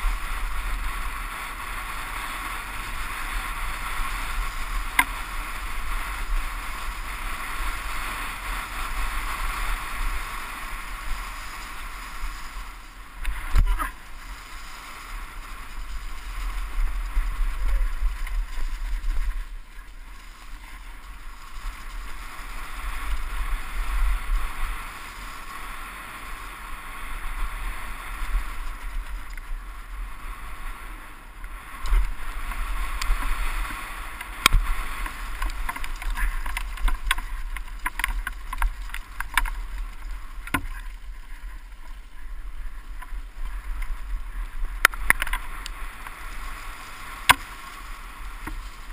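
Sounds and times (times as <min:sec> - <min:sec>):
bike rattling over bumps: 0:00.0 - 0:48.9
tyres on leafy dirt: 0:00.0 - 0:48.9
wind rushing over camera: 0:00.0 - 0:48.9.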